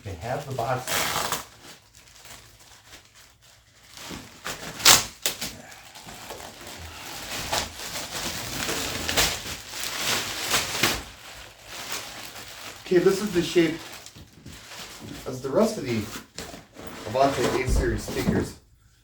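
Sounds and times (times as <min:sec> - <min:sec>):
packaging rustling and clattering: 0:00.2 - 0:18.6.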